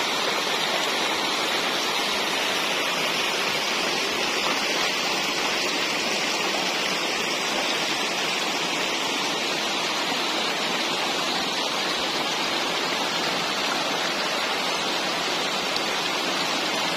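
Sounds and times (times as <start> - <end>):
stream rushing over rocks: 0.0 - 16.9.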